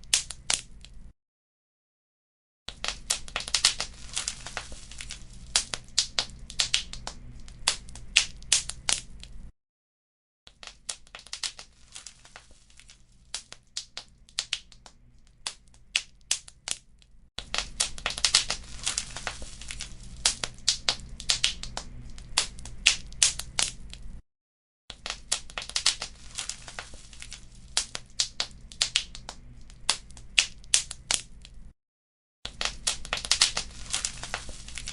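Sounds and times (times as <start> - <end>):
wood fire crackling and popping: 0.0 - 1.0, 2.7 - 9.5, 10.6 - 16.8, 17.4 - 24.2, 24.9 - 31.6, 32.5 - 34.9.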